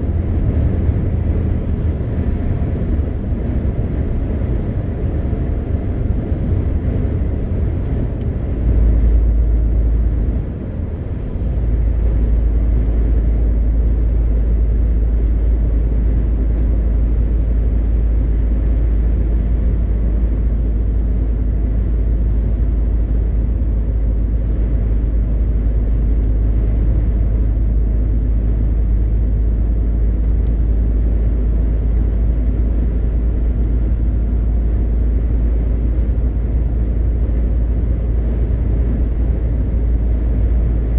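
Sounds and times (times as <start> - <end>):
truck engine and road drone: 0.0 - 40.9.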